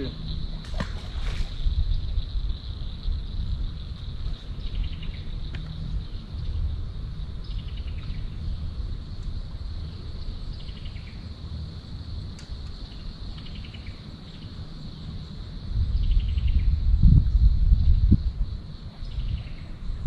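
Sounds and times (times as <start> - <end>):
high-pitched insect trill: 0.0 - 20.0
rapid insect chirps: 0.0 - 20.0
wind rumbling on microphone: 0.0 - 20.0.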